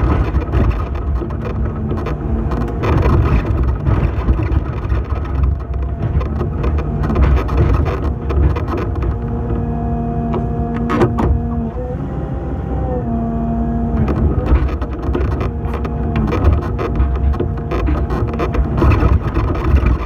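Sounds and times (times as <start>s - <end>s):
diesel engine under load: 0.0s - 20.0s
hydraulic whine: 0.0s - 20.0s.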